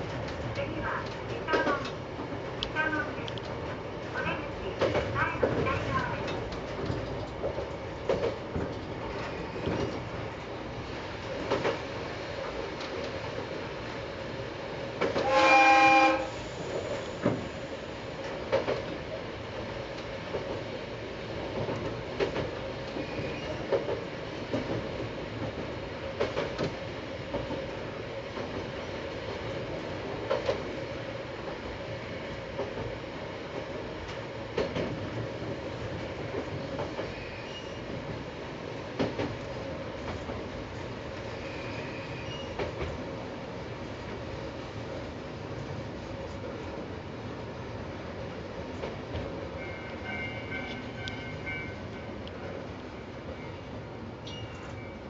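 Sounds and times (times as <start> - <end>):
railcar running hum: 0.0 - 55.0.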